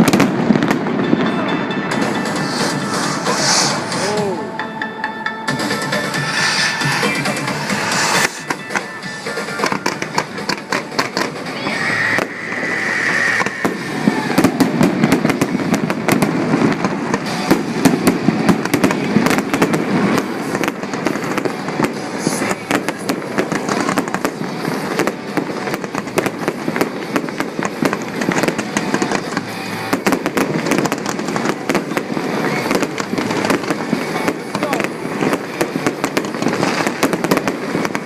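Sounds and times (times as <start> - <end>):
fireworks popping and crackling: 0.0 - 4.5, 5.5 - 38.0
high firework whistle: 0.0 - 4.9, 5.5 - 38.0
continuous rumble: 5.6 - 38.0.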